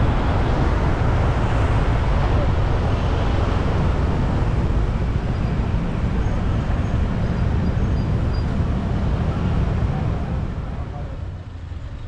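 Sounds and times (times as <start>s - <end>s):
road traffic hiss and rumble: 0.0s - 12.0s.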